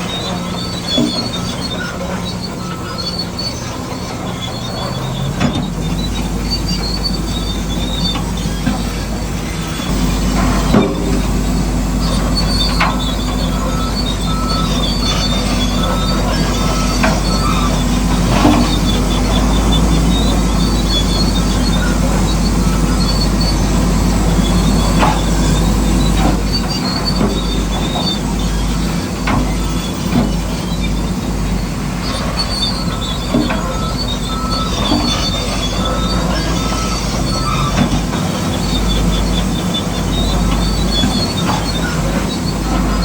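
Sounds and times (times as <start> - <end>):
bulldozer engine running: 0.0 - 43.0
metal tracks squealing and clanking: 0.0 - 43.0.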